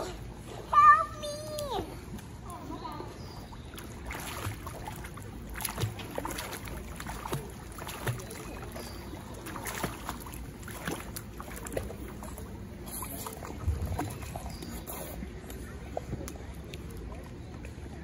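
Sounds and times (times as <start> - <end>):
pool water splashing: 0.0 - 18.0.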